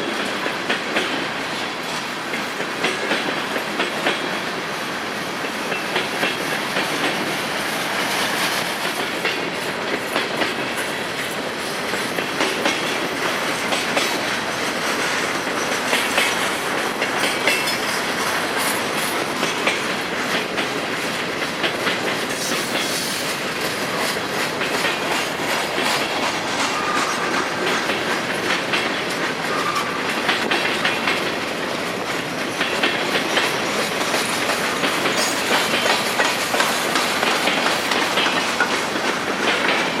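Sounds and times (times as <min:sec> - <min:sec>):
wheels clicking over rail joints: 0:00.0 - 0:04.7, 0:05.3 - 0:40.0
freight train cars rumbling: 0:00.0 - 0:40.0.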